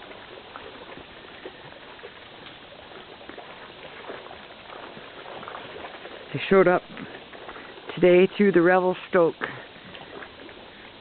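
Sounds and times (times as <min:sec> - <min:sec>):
small splashes: 0:00.0 - 0:11.0
water lapping at shoreline: 0:00.0 - 0:11.0.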